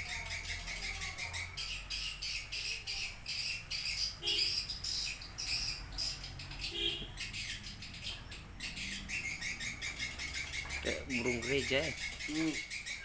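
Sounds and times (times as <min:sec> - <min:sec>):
bird chirping rapidly: 0:00.0 - 0:13.0.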